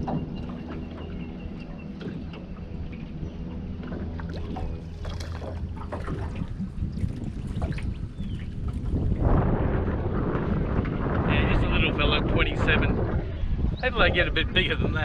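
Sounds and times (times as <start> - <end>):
boat low hum: 0.0 - 15.0.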